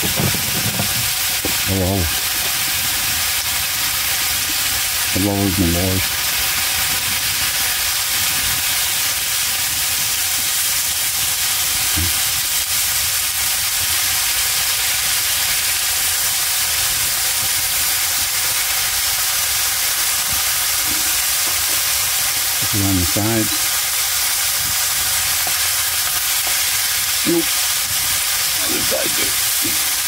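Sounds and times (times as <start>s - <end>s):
fish frying in hot oil: 0.0s - 30.0s.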